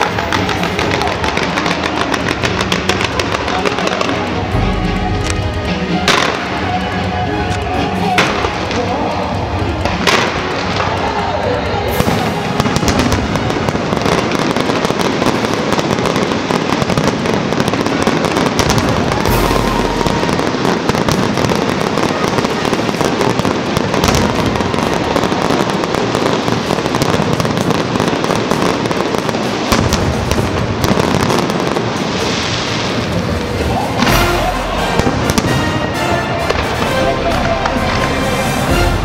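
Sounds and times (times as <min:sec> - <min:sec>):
sharp firework cracks: 0:00.0 - 0:38.2
fireworks crackling and popping: 0:00.0 - 0:39.0.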